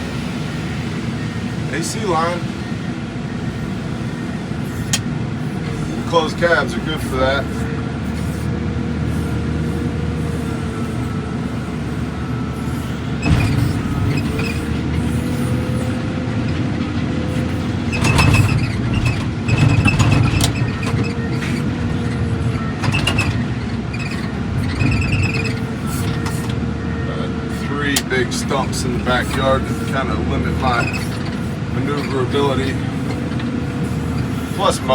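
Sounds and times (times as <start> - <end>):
diesel engine from inside cab: 0.0 - 34.9
hydraulic whine: 0.0 - 34.9.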